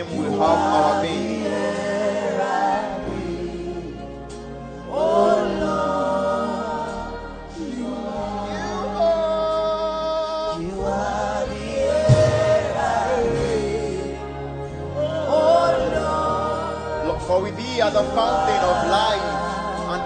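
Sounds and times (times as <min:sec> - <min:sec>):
low chordal accompaniment: 0:00.0 - 0:20.0
voices singing held notes: 0:00.0 - 0:20.0.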